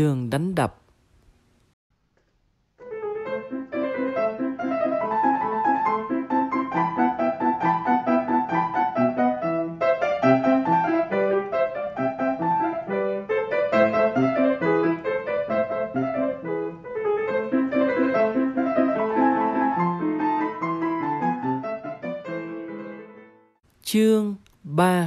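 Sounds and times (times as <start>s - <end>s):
solo piano music: 2.8s - 23.6s.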